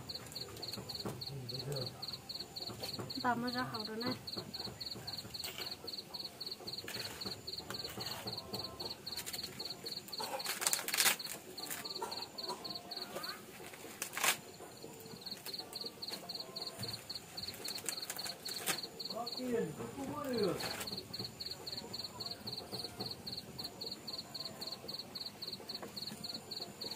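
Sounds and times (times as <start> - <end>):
insect chirping: 0.0 - 26.9.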